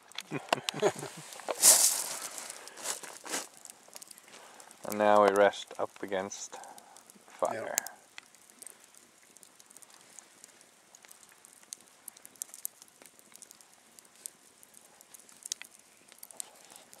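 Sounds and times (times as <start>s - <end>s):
campfire crackling: 0.0s - 17.0s
sharp pops and snaps: 0.0s - 17.0s.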